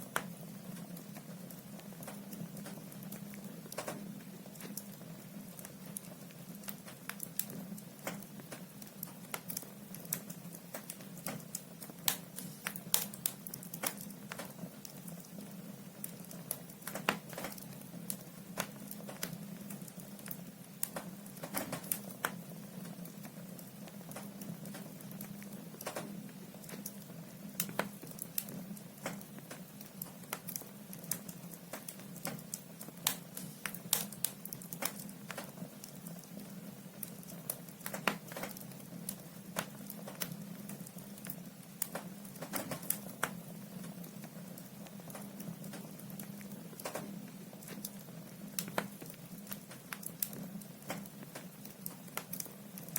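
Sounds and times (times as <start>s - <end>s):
firewood crackling and popping: 0.0s - 52.9s.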